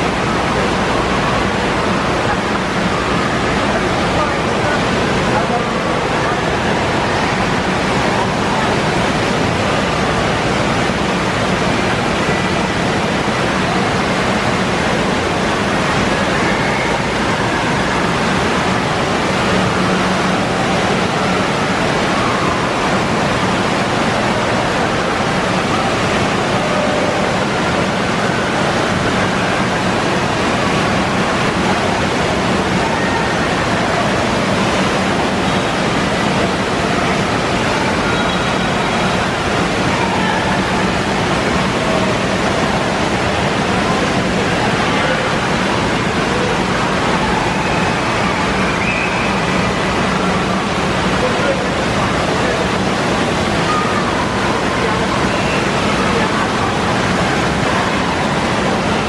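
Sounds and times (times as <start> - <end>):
spraying and falling water: 0.0 - 59.0.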